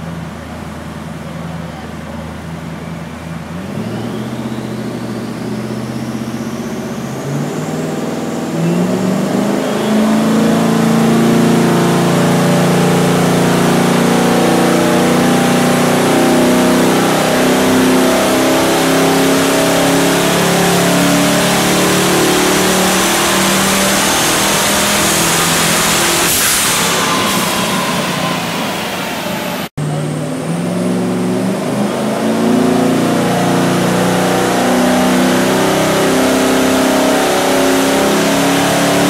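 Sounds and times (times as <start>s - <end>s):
car engine revving high: 0.0s - 39.0s
turbo whine rising: 2.7s - 39.0s.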